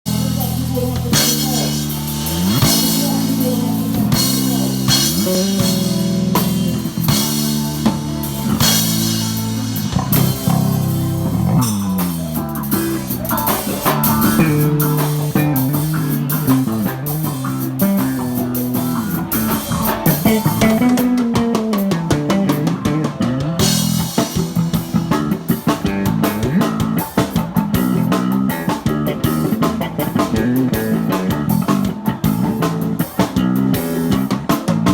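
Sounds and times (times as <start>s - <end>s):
bass guitar with sliding notes: 0.0s - 34.9s
drum kit with cymbal hits: 0.1s - 34.9s
electric guitar: 0.1s - 34.9s.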